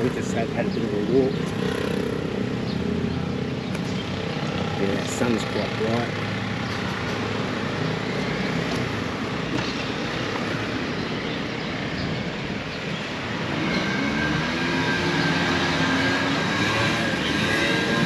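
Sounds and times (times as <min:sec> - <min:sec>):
road traffic noise: 0:00.0 - 0:18.0
vehicle engine hum: 0:00.0 - 0:18.0.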